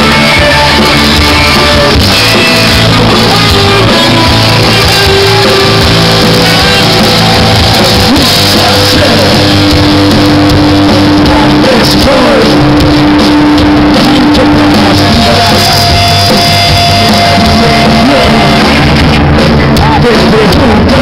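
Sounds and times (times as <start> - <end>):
loud live rock band: 0.0 - 21.0.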